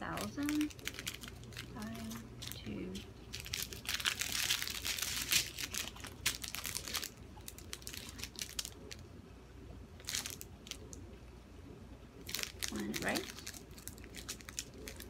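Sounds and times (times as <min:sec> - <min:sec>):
plastic bags crinkling: 0:00.0 - 0:09.0, 0:10.0 - 0:11.0, 0:12.2 - 0:15.0.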